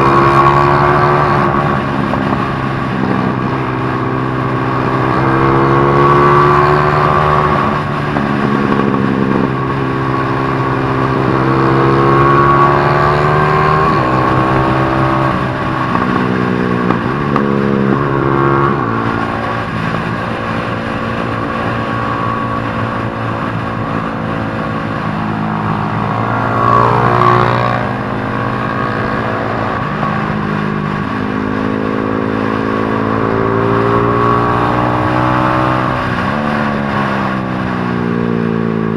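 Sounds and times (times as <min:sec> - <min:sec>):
motorcycle engines revving: 0:00.0 - 0:38.9
motorcycle passing by: 0:00.0 - 0:38.9.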